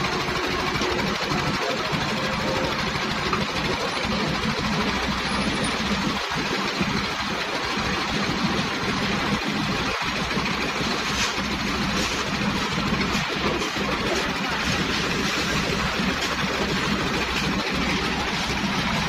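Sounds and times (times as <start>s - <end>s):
concrete mixer engine running: 0.0s - 19.0s.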